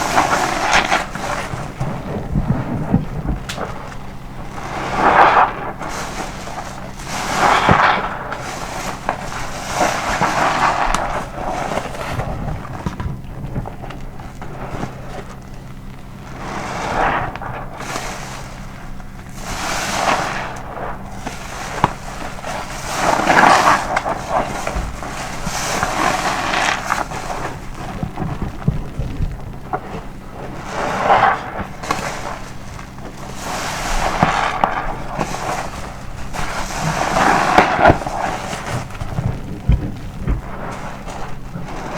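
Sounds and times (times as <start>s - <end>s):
soapy sponge squelching: 0.0s - 41.9s.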